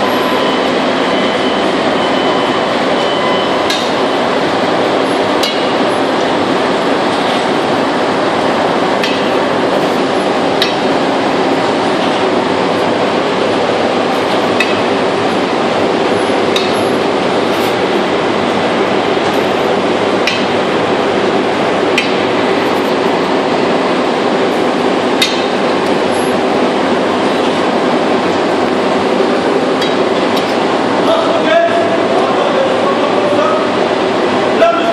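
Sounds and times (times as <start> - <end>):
loud machinery noise: 0.0 - 34.9.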